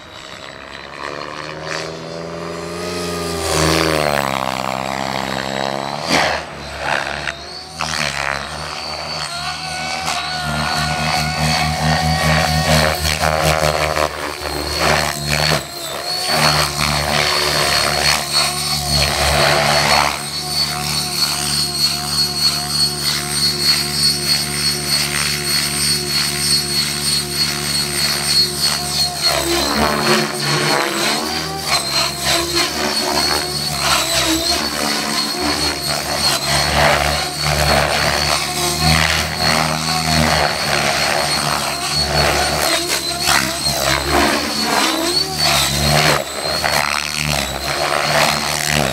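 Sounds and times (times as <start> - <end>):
model helicopter whine: 0.0 - 48.9
rotor noise: 0.0 - 48.9.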